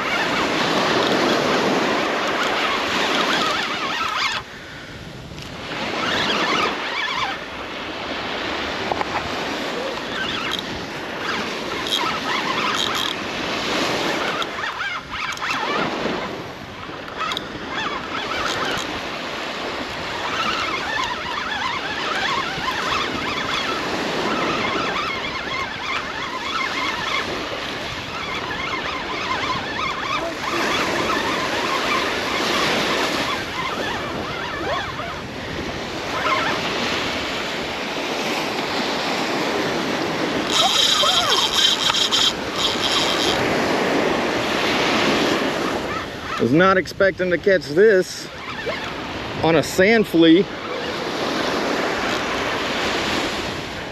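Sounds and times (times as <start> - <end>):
small waves breaking on beach: 0.0 - 53.9
wind buffeting microphone: 0.0 - 53.9.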